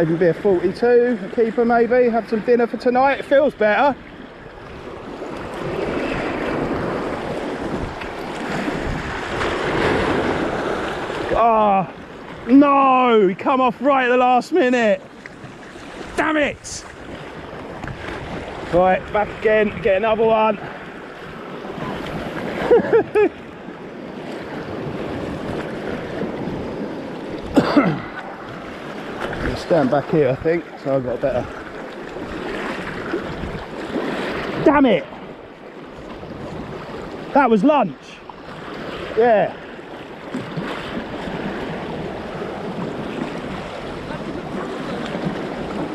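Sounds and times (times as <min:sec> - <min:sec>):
surf washing against rocks: 0:00.0 - 0:45.9
wind buffeting microphone: 0:03.4 - 0:12.6, 0:15.1 - 0:37.4, 0:38.4 - 0:45.9.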